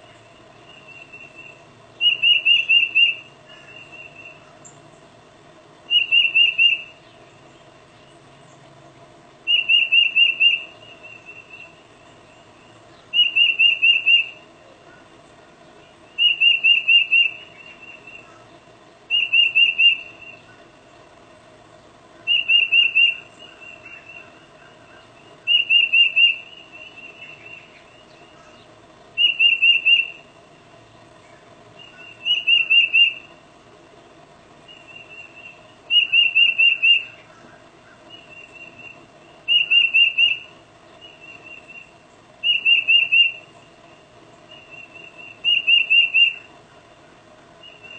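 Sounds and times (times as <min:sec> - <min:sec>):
bird whistled song: 0:00.0 - 0:04.8, 0:05.9 - 0:08.6, 0:09.4 - 0:14.5, 0:15.8 - 0:18.4, 0:19.1 - 0:20.6, 0:22.2 - 0:30.3, 0:31.2 - 0:33.4, 0:34.6 - 0:43.7, 0:44.4 - 0:46.5, 0:47.6 - 0:47.9.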